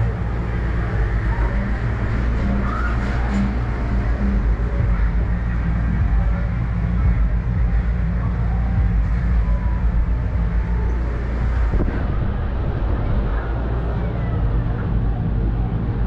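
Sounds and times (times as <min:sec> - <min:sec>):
faint fairground sounds: 0:00.0 - 0:16.0
ferris wheel rumble and hum: 0:00.0 - 0:16.0.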